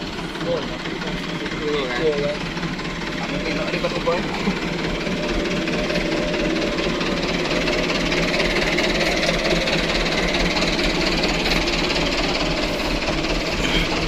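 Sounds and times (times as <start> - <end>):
diesel truck engine chugging: 0.0 - 14.0.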